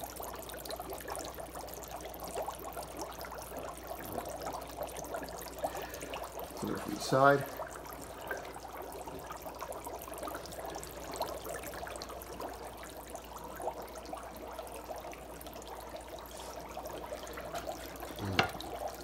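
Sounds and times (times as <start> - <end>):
dry ice bubbling in water: 0.0 - 19.0.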